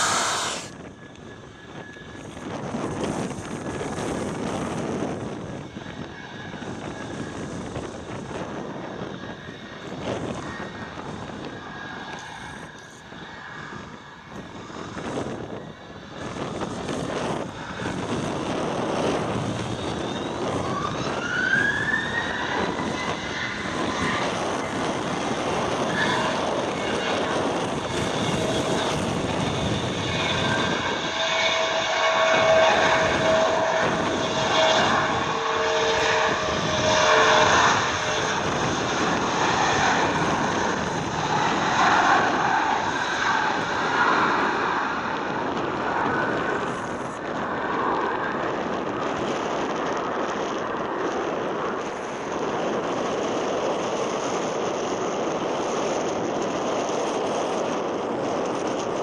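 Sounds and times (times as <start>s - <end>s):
jet engines spooling up: 0.0s - 59.0s
rising engine whine: 0.0s - 59.0s.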